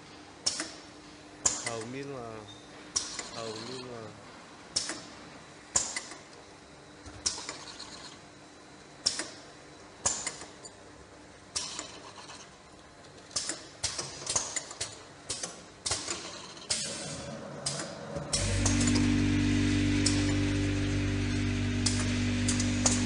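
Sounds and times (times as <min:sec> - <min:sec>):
faint machine hum: 0:00.0 - 0:23.0.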